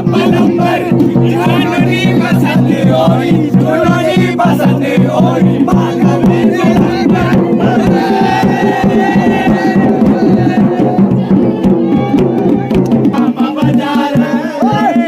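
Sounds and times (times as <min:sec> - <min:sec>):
music with quick drum beat: 0:00.0 - 0:15.0.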